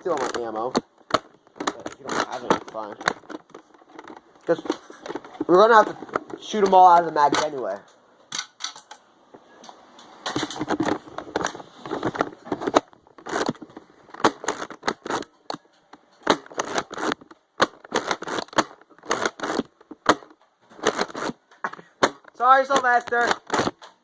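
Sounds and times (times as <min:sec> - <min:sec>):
plastic clicks and knocks: 0:00.0 - 0:07.6, 0:09.7 - 0:24.0.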